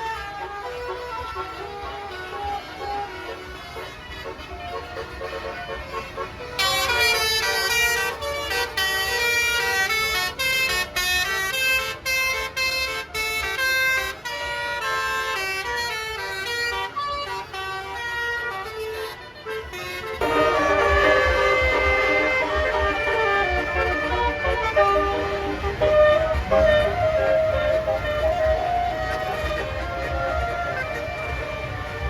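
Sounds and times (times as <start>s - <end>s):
bus musical horn playing a tune: 0.0s - 32.0s.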